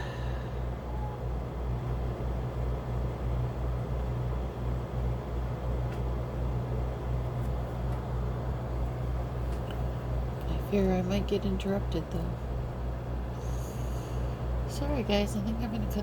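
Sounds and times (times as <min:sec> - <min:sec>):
throbbing mechanical hum: 0:00.0 - 0:16.0.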